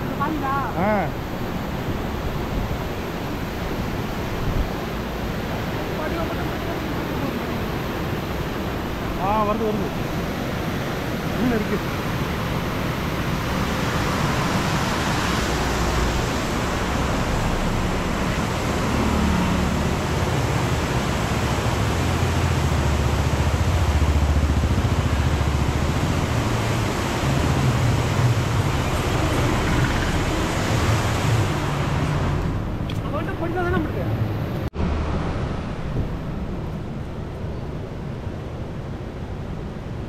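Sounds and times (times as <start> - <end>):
floodwater rushing over spillway: 0.0 - 37.3.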